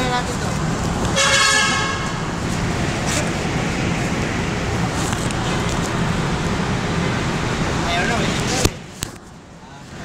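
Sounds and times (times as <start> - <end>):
train car interior noise: 0.0 - 10.0.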